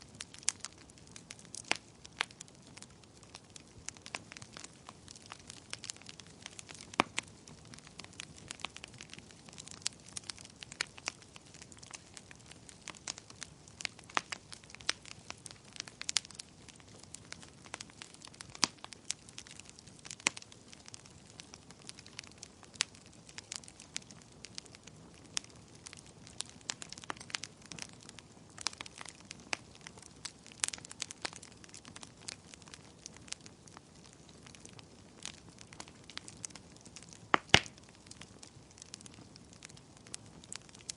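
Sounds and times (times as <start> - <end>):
logs crackling and popping: 0.0 - 40.9
wood fire hissing: 0.0 - 40.9.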